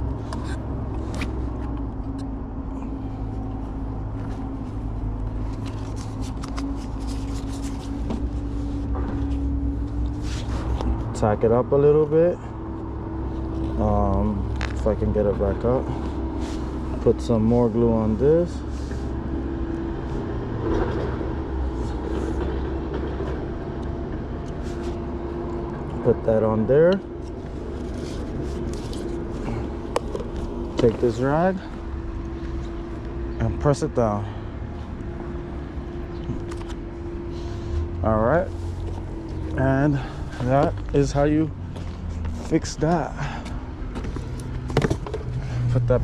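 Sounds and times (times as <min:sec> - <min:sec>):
vehicle engine idling hum: 0:00.0 - 0:46.0.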